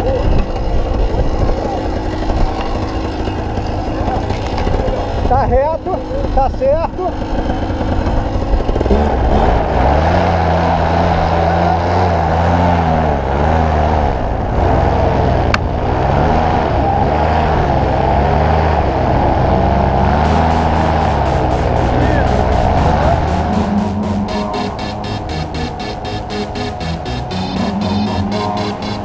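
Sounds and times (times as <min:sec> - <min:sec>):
paramotor engine and propeller: 0:00.0 - 0:28.2.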